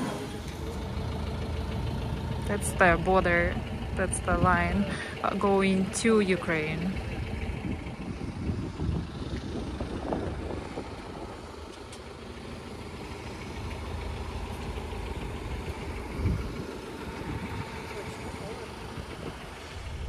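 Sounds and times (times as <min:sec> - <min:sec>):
traffic engines rumbling: 0:00.0 - 0:20.0.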